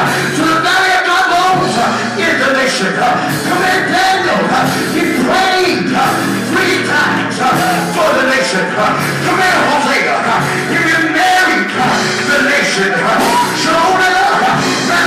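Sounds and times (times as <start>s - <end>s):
gospel band playing: 0.0s - 15.0s
person singing: 0.0s - 15.0s.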